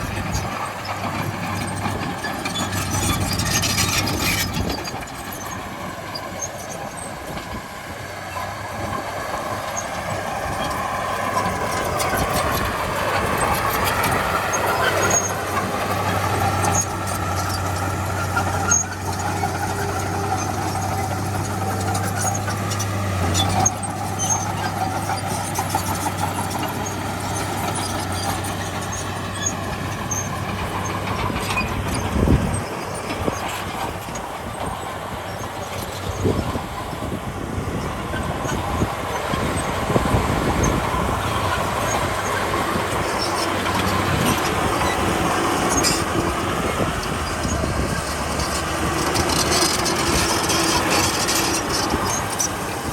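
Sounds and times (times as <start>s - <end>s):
bulldozer diesel engine running: 0.0s - 52.9s
steel tracks squealing and clanking: 0.0s - 52.9s.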